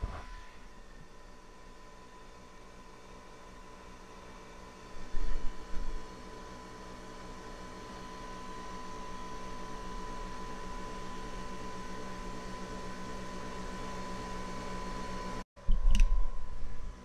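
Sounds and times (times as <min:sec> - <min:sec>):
coffee machine motor hum: 0:00.4 - 0:17.0.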